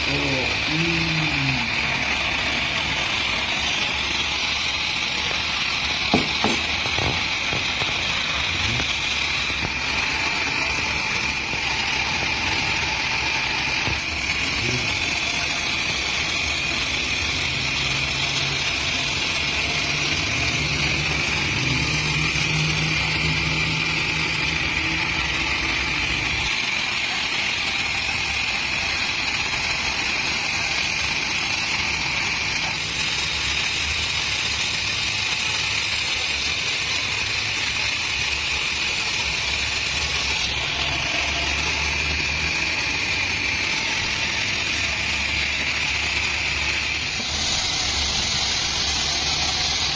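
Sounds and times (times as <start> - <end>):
deeper drone: 0.0 - 30.6, 31.3 - 49.9
engine running steadily: 0.0 - 49.9.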